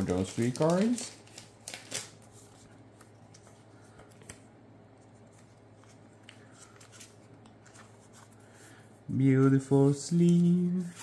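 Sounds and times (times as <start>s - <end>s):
handling trading cards: 0.0s - 11.0s.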